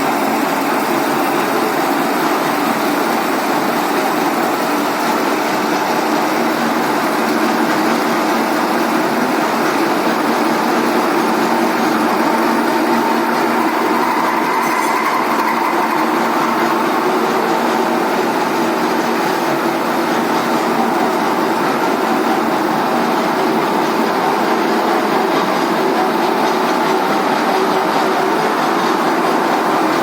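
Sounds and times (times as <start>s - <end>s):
lathe cutting thread: 0.0s - 25.3s.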